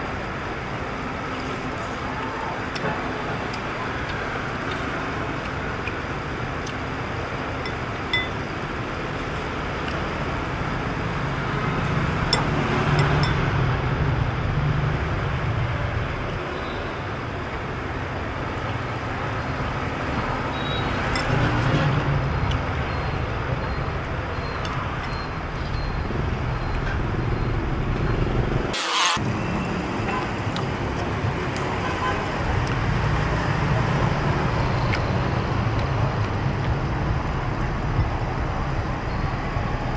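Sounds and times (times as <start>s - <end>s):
cars passing: 0.0s - 39.9s.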